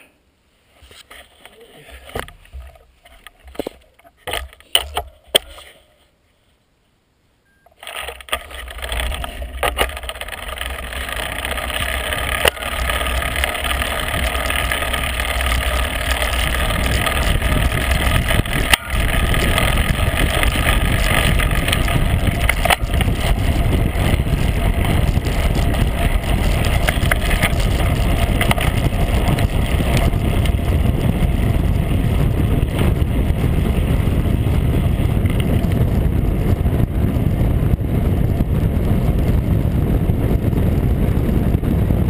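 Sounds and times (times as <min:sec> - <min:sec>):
bicycle road noise: 0:00.0 - 0:06.1, 0:07.5 - 0:42.0
wind rushing over microphone: 0:07.8 - 0:42.0.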